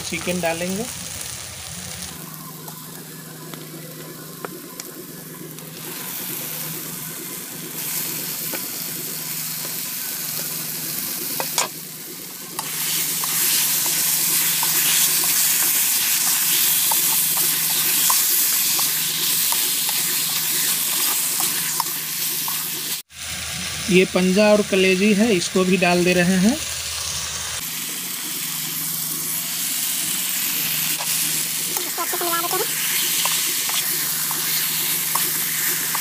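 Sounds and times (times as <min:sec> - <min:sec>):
food sizzling in a metal pot: 0:00.0 - 0:36.0.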